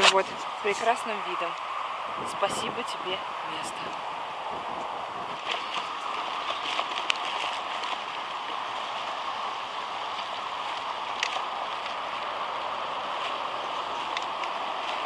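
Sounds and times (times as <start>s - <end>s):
bicycle tyres on road: 0.0s - 15.0s
wind over microphone: 0.0s - 15.0s.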